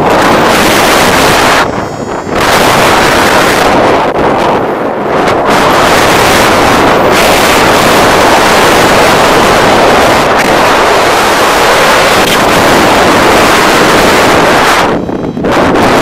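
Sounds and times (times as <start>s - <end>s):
wind rushing across microphone: 0.0s - 16.0s.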